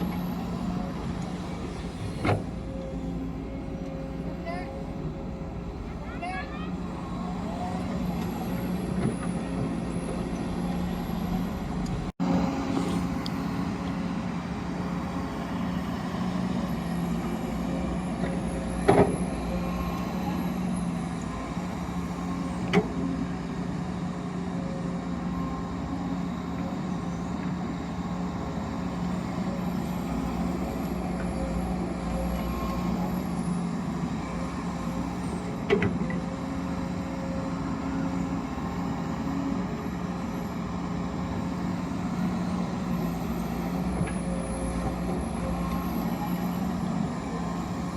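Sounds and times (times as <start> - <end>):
heavy vehicle engine running: 0.0 - 47.9.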